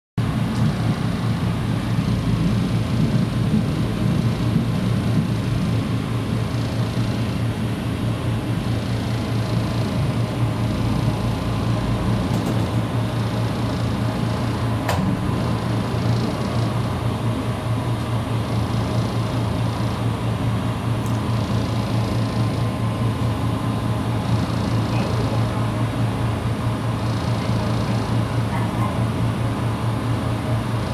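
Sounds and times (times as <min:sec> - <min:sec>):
diesel railcar engine humming: 0:00.2 - 0:30.9.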